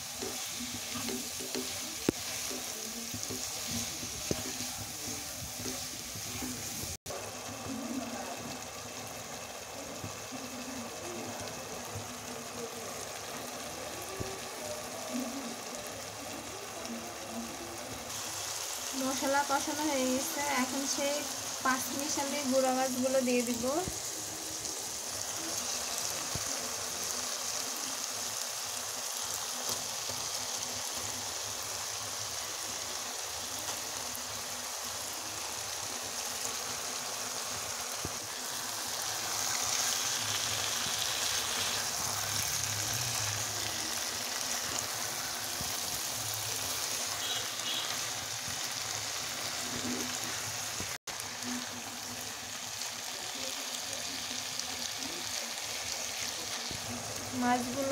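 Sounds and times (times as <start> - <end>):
food sizzling and bubbling: 0.0 - 57.9.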